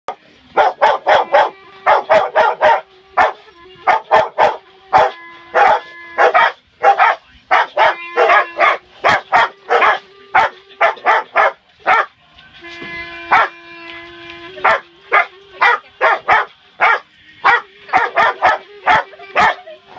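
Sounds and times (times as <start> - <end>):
clarinet held notes: 0.2 - 6.6, 7.8 - 11.5, 12.4 - 16.4, 17.4 - 19.9
dog barking: 0.6 - 12.1, 13.3 - 13.5, 14.6 - 19.6.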